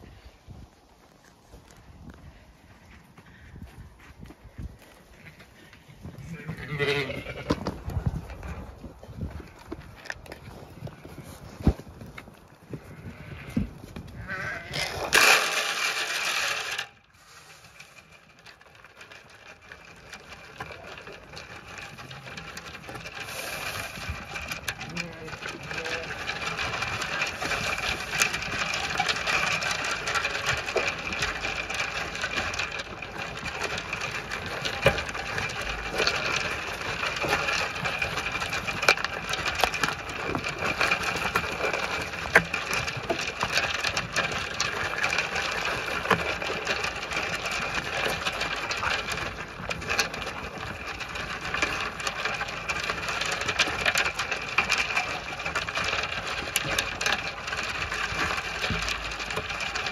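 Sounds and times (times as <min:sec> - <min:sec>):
sheep crunching and chewing: 0:00.0 - 0:59.9.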